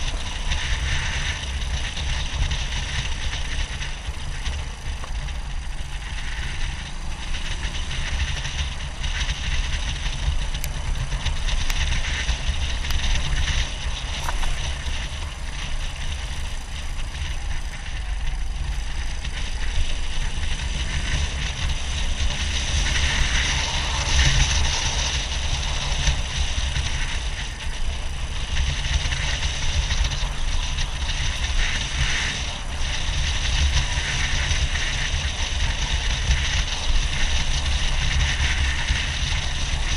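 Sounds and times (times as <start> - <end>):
motorcycle being ridden: 0.0 - 39.9
wind rumble on microphone: 0.0 - 39.9.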